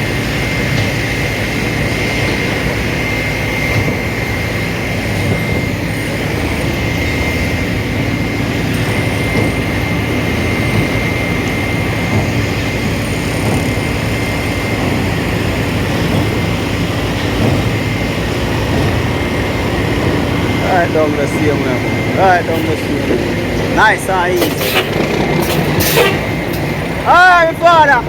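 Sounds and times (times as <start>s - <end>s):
diesel engine drone: 0.0s - 28.0s
high-pitched whine: 0.0s - 28.0s.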